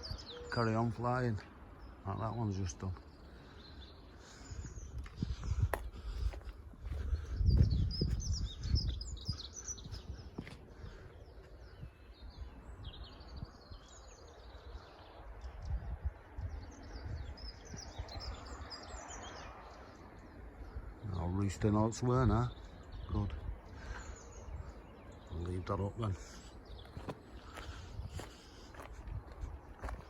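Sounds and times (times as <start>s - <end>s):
songbirds chirping and singing: 0.0s - 30.0s
wind buffeting microphone: 2.9s - 30.0s.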